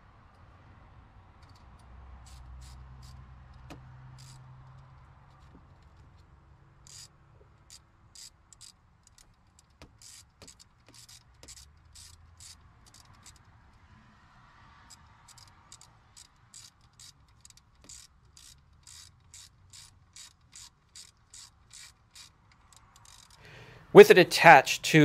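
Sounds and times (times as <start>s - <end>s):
ratchet wrench clicking: 1.4s - 13.8s, 14.8s - 23.5s.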